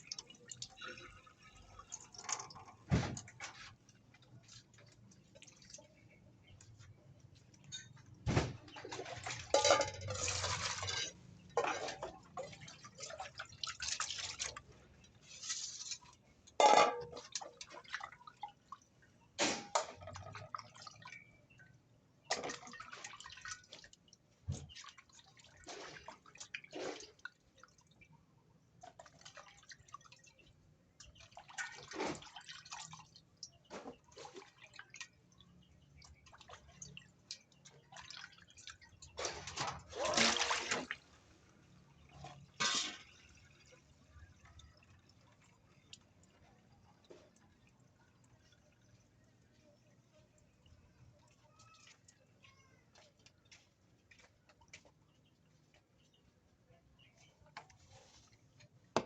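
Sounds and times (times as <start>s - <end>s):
water splashing and dripping: 0.0s - 59.0s.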